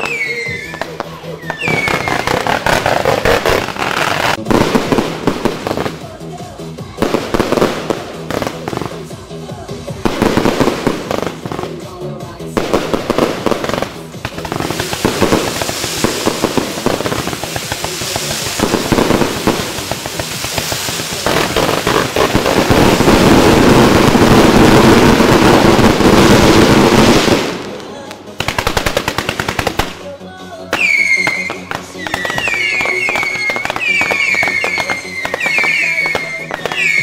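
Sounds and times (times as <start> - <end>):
rockets launching: 0.0 - 6.1, 12.5 - 30.1, 30.7 - 37.0
firecracker crackle: 0.0 - 37.0.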